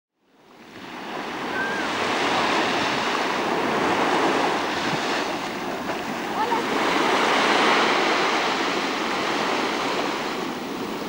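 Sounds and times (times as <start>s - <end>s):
ocean waves washing on beach: 0.2s - 11.0s.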